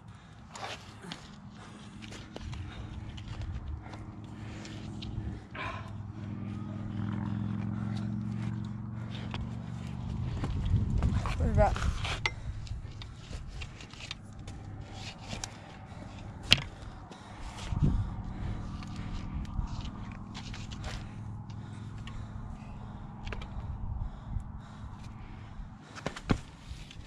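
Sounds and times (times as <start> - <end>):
low rumble: 1.1 - 25.9.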